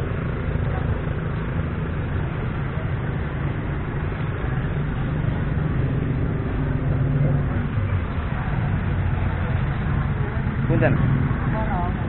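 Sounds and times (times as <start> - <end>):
roadside traffic rumble: 0.0 - 12.0.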